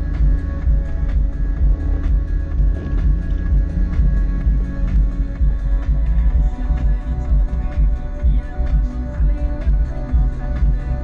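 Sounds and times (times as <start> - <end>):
music with bass beat: 0.0 - 11.0.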